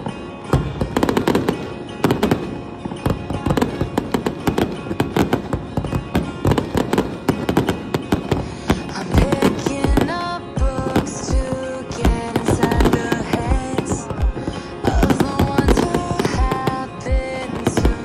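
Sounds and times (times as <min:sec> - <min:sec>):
background music: 0:00.0 - 0:18.0
fireworks bangs and crackles: 0:00.0 - 0:18.0.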